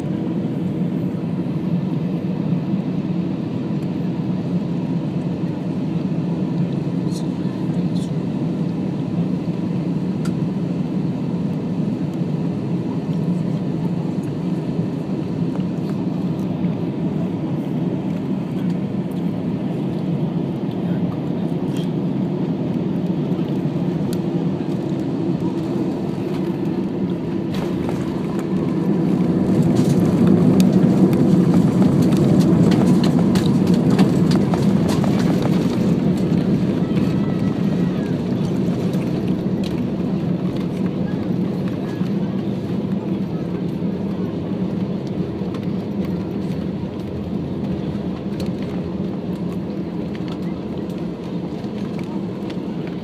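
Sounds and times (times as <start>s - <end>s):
jet engine and airflow rumble: 0.0s - 53.0s.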